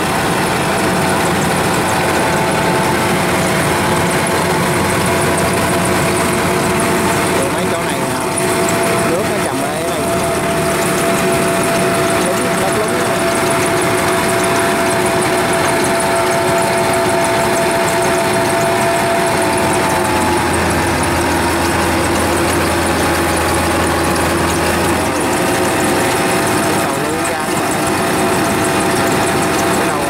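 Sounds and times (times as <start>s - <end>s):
deeper hum: 0.0s - 30.0s
diesel engine running under load: 0.0s - 30.0s.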